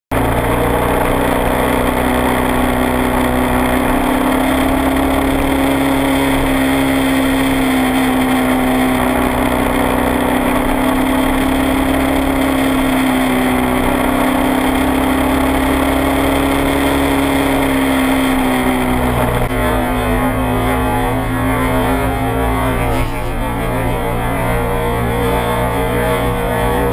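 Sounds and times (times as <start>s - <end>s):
motorcycle engine cruising: 0.1s - 26.9s.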